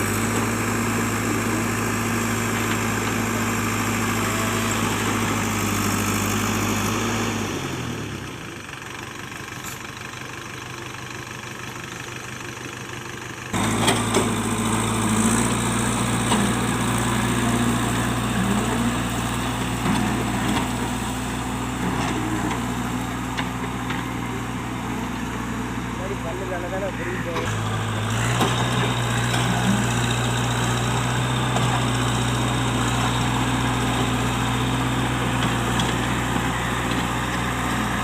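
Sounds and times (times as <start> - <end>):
backhoe diesel engine: 0.0 - 38.0.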